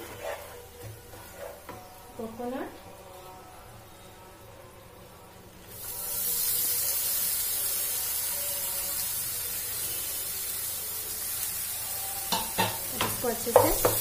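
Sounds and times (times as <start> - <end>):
sugar syrup sizzling in a frying pan: 0.0 - 14.0.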